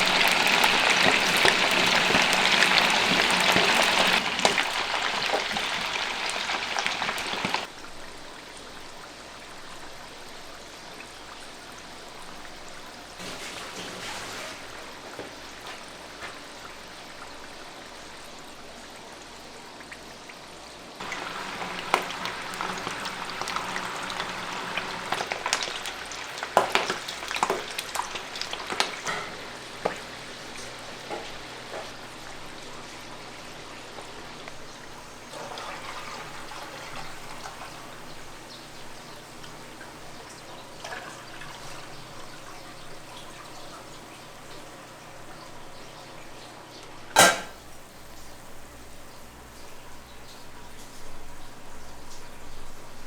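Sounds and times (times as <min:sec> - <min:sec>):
fish frying in oil: 0:00.0 - 0:53.0.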